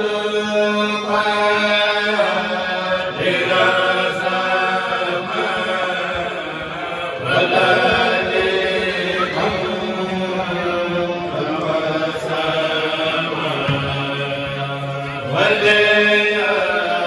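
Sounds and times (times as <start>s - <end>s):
men chanting into microphones: 0.0s - 17.0s.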